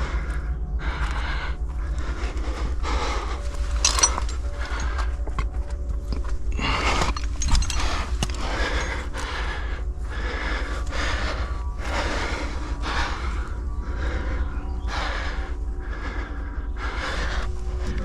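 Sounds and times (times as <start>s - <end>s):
heavy effortful breathing: 0.0s - 18.0s
steady low rumble: 0.0s - 18.0s.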